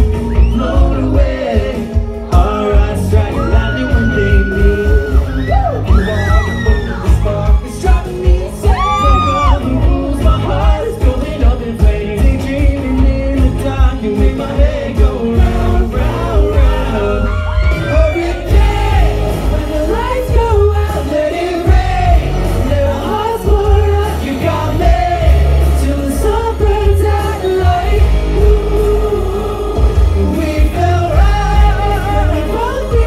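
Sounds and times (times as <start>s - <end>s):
pop music with heavy bass beat: 0.0s - 33.0s
young men singing: 0.0s - 33.0s.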